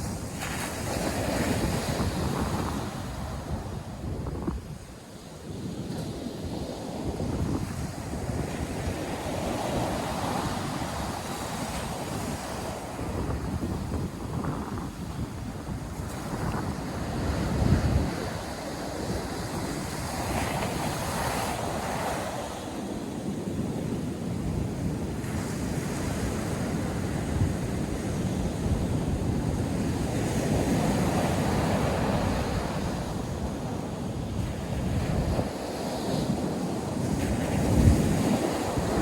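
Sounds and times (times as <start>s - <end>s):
ocean surf on beach: 0.0s - 39.0s
wind buffeting microphone: 0.0s - 39.0s.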